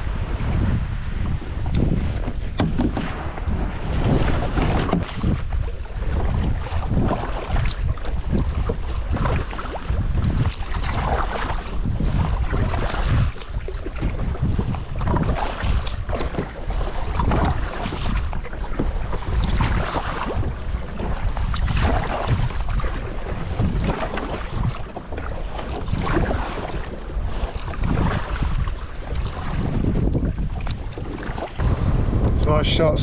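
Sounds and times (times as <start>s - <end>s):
paddle strokes splashing water: 0.0s - 31.8s
wind rumbling on microphone: 0.0s - 33.0s.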